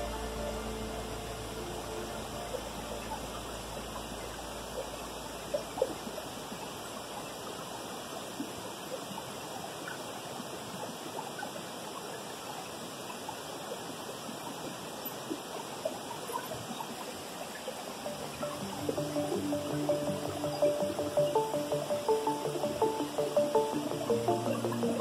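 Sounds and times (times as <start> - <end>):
waterfall and stream over rocks: 0.0 - 25.0.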